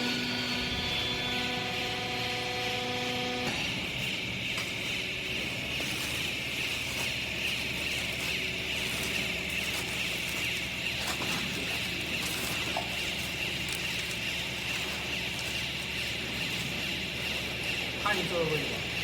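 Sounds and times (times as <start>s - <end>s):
pitched hum: 0.0s - 18.0s
electric motor and pump running: 0.0s - 19.0s
high machine whine: 0.0s - 19.0s.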